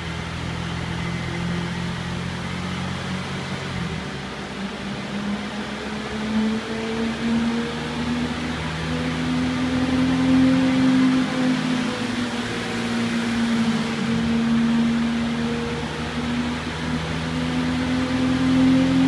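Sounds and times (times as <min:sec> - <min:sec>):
car engine revving under load: 0:00.0 - 0:19.0.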